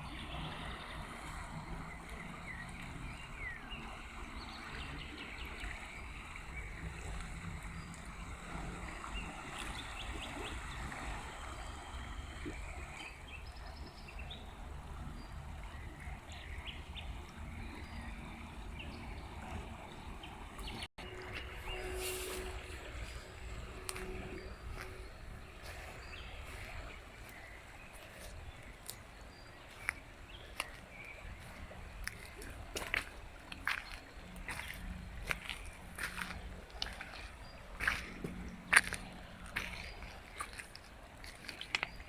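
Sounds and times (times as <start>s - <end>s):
river flowing: 0.0s - 42.0s.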